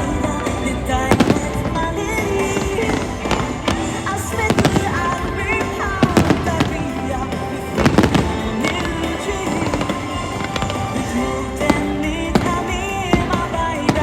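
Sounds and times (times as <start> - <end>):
fireworks bursting with sharp bangs: 0.0 - 14.0
music: 0.0 - 14.0.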